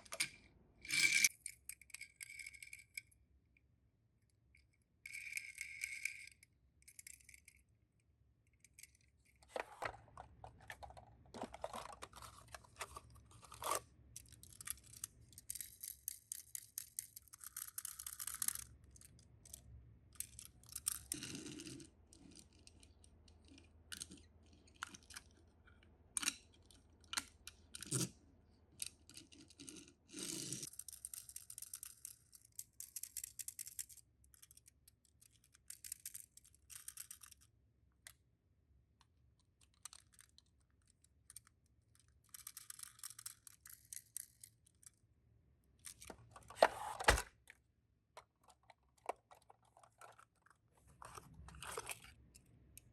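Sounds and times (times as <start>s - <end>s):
toy cars and boxes handled: 4.3s - 38.3s, 38.9s - 52.9s.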